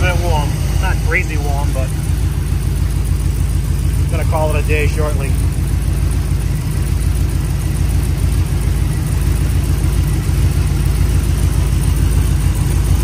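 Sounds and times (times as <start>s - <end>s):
engine idling with a lope: 0.0s - 13.0s.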